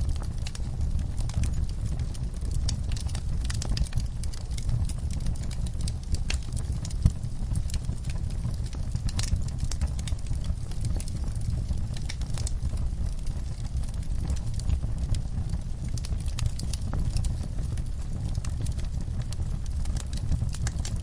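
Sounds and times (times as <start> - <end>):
fire crackling: 0.0 - 21.0
fire popping: 0.0 - 21.0
low rumble of flames: 0.0 - 21.0.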